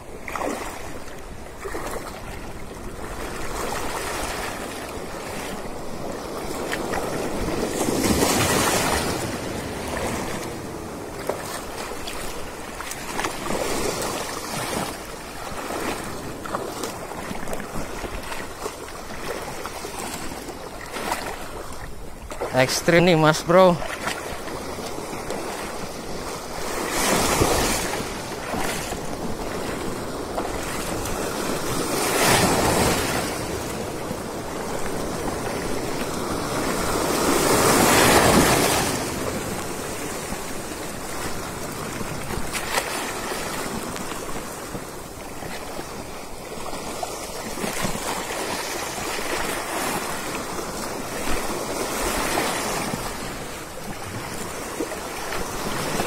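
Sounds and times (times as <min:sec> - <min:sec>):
sea surf on rocky shore: 0:00.0 - 0:56.0
wind: 0:00.0 - 0:56.0.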